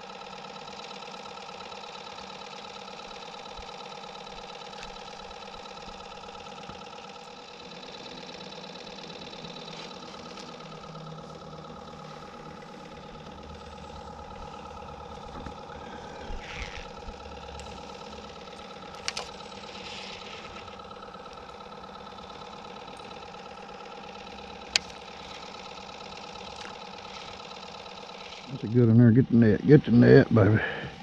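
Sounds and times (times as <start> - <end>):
boat motor humming: 0.0 - 31.0.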